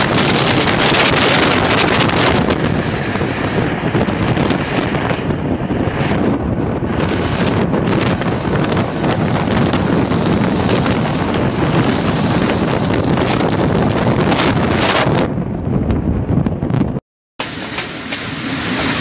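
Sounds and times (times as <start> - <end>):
train rushing along track: 0.0 - 19.0
wind buffeting microphone: 0.0 - 19.0.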